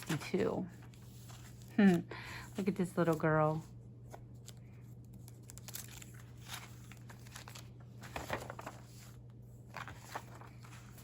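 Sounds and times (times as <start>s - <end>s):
low steady hum: 0.0s - 11.0s
paper rustling and crinkling: 0.0s - 11.0s.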